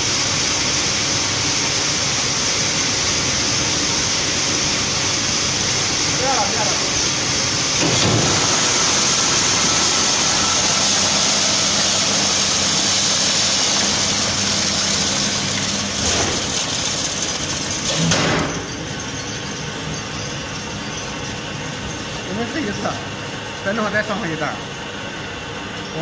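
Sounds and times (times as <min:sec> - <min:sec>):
machine hum with high hiss: 0:00.0 - 0:26.0.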